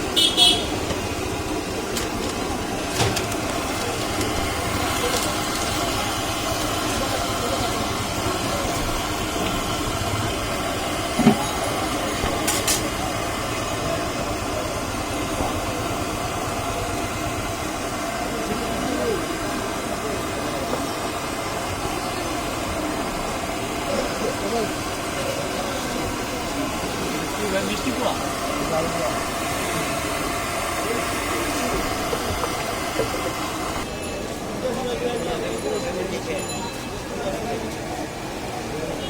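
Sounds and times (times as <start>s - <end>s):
passing traffic: 0.0s - 39.0s.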